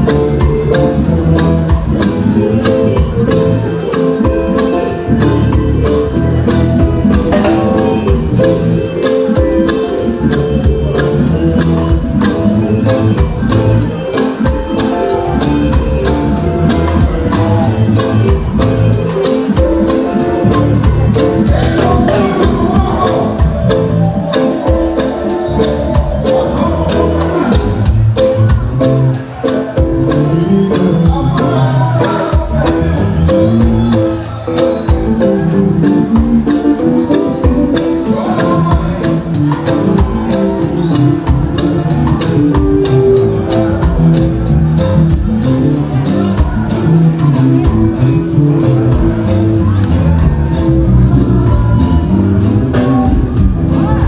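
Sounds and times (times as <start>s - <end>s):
live reggae band: 0.0s - 54.0s.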